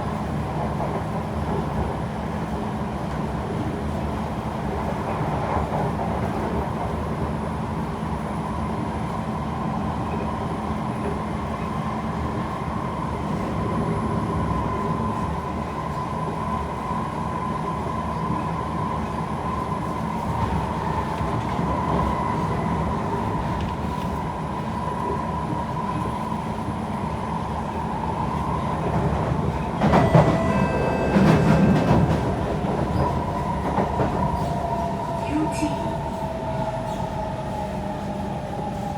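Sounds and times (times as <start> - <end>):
steady train whine: 0.0 - 38.9
wheels rumbling on rail: 0.0 - 38.9.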